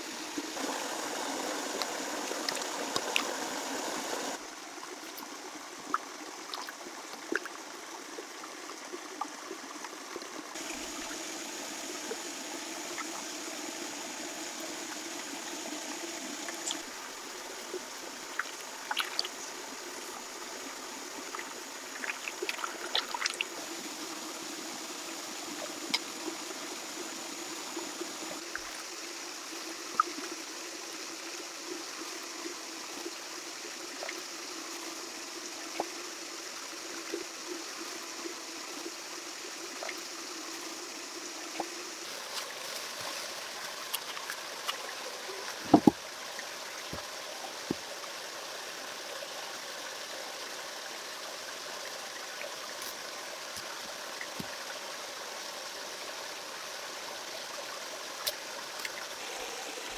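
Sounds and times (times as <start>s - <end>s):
running water trickling: 0.0s - 56.4s, 57.3s - 59.9s.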